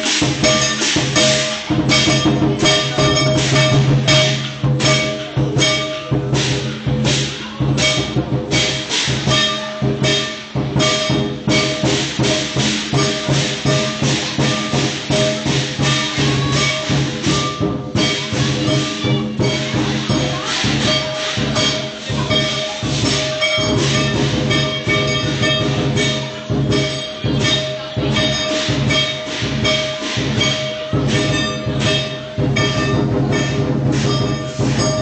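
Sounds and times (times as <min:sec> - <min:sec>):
cymbals clashing: 0:00.0 - 0:35.0
drum beating: 0:00.0 - 0:35.0
sustained ringing tones: 0:00.2 - 0:07.0, 0:07.8 - 0:35.0.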